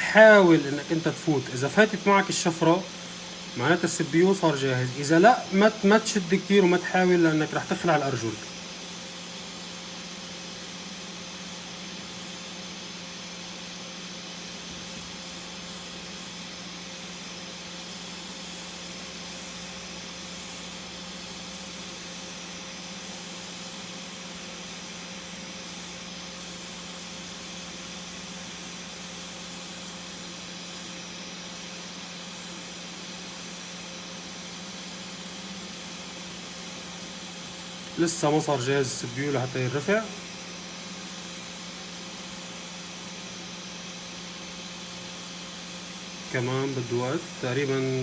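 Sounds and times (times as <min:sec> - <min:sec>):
hot air station blowing: 0:00.0 - 0:48.0.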